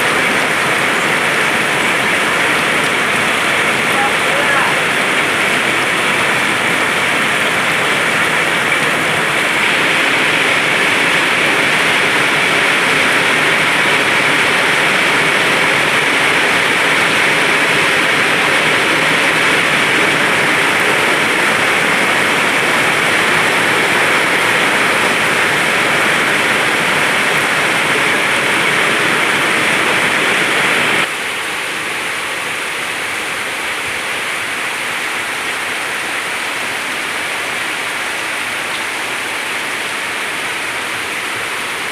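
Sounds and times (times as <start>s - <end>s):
rain pouring: 0.0s - 41.9s.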